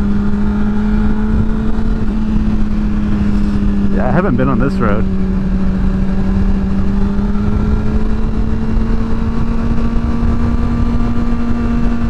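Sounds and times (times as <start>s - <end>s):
wind rumbling on microphone: 0.0s - 4.0s, 5.0s - 12.0s
motorcycle engine cruising: 0.0s - 12.0s.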